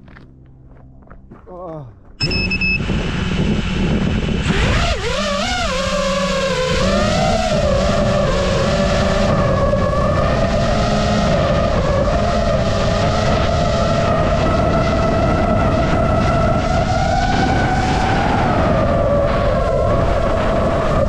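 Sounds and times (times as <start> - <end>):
drone motors whining: 2.2 - 21.0.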